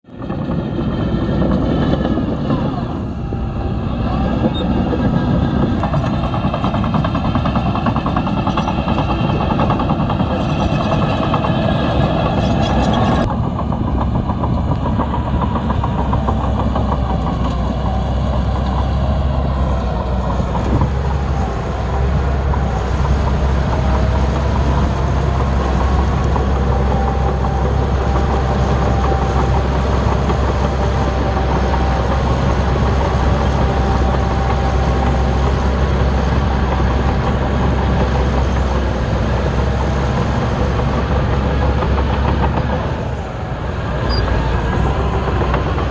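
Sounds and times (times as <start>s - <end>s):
bulldozer diesel engine rumbling: 0.1s - 45.9s
faint engine whine: 0.1s - 45.9s.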